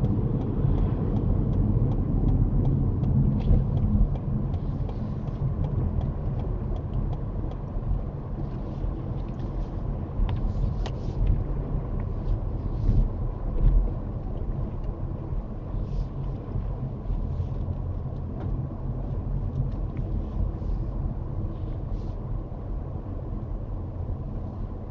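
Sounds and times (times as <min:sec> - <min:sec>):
car engine and tyres rumbling: 0:00.0 - 0:24.9.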